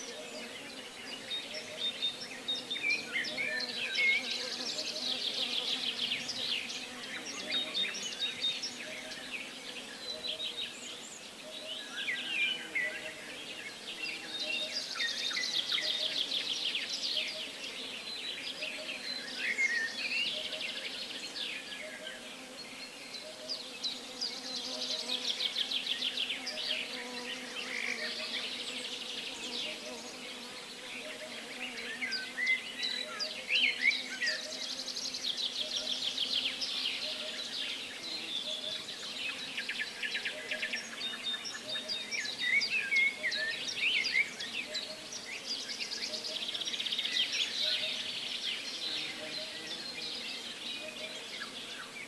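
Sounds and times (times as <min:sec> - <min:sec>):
birds chirping and trilling: 0:00.0 - 0:52.0
faint insect buzz: 0:00.0 - 0:52.0.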